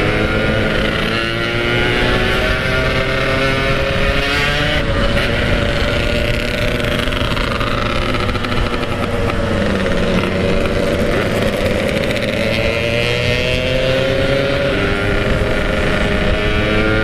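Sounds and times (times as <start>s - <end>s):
two-stroke motorcycle engine: 0.0s - 17.0s.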